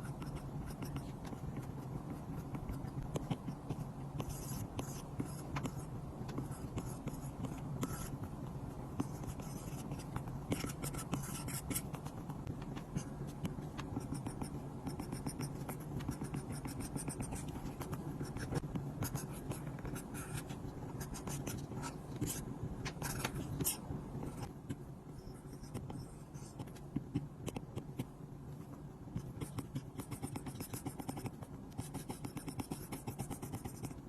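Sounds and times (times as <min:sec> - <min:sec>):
stylus scratching on screen: 0:00.0 - 0:08.4, 0:09.0 - 0:28.1, 0:29.1 - 0:34.0.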